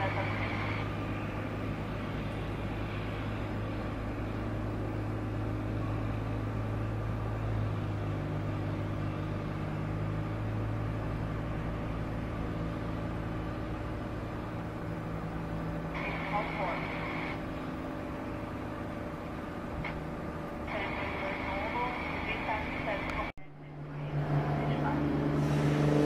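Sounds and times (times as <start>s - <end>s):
twin piston aircraft engines droning: 0.0s - 26.0s.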